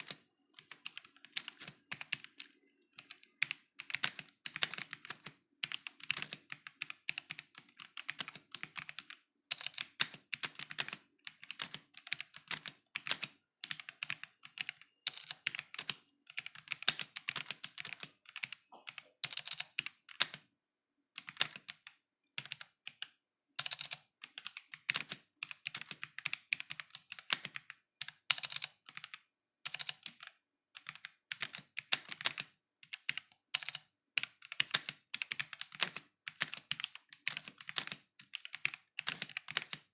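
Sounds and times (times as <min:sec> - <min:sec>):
mechanical keyboard typing: 0:00.0 - 0:20.5, 0:21.2 - 0:39.9.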